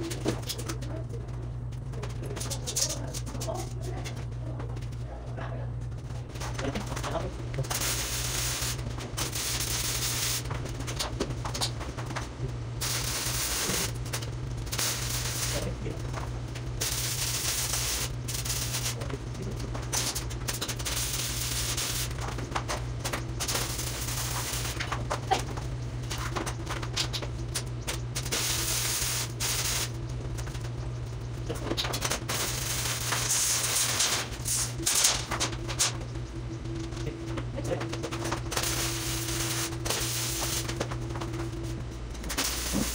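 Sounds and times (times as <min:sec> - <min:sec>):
welding arc crackling and hissing: 0:00.0 - 0:00.9, 0:01.7 - 0:05.0, 0:05.8 - 0:42.9
low hum: 0:00.0 - 0:42.9.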